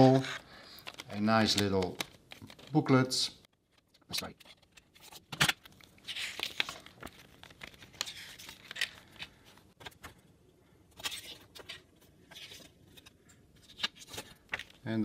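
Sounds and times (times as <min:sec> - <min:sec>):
paper pages rustling: 0:00.0 - 0:10.2, 0:10.9 - 0:14.9.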